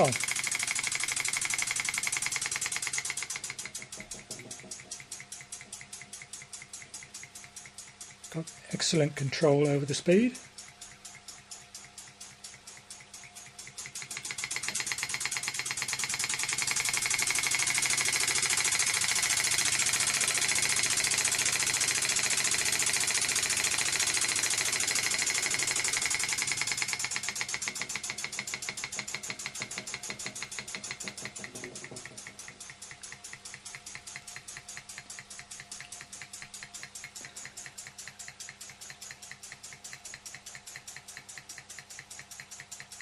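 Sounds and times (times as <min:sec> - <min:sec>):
toy steam engine chuffing: 0:00.0 - 0:43.0.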